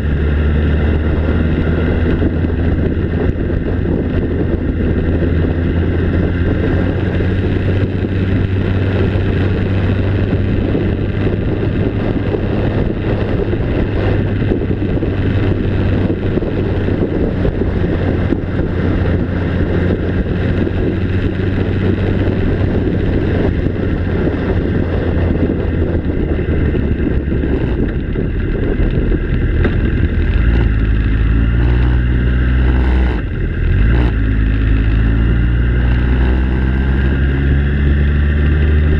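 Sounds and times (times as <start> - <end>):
vehicle engine droning: 0.0 - 38.9
wind noise: 0.0 - 38.9.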